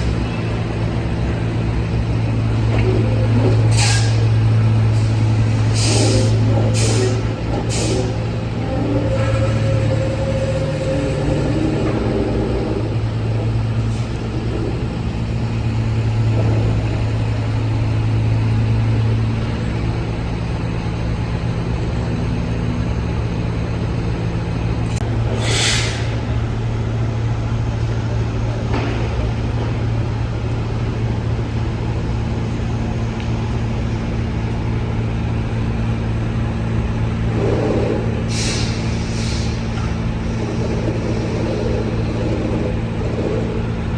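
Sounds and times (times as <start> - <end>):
dump truck deep hum: 0.0 - 43.9.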